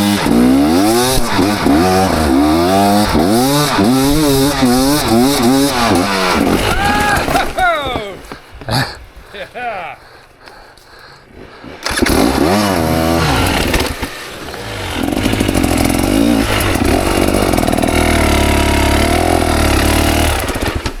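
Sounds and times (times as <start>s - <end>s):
dirt bike engine revving: 0.0s - 7.6s, 11.8s - 21.0s.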